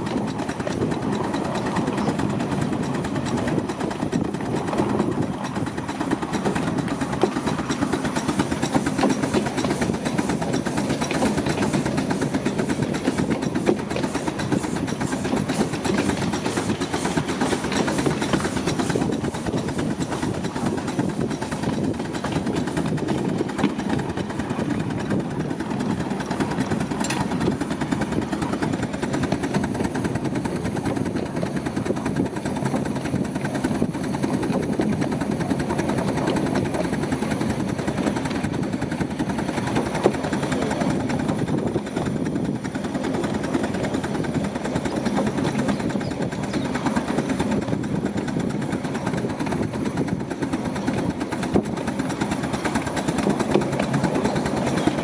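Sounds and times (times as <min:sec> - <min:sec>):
miniature train rattling on track: 0:00.0 - 0:55.0.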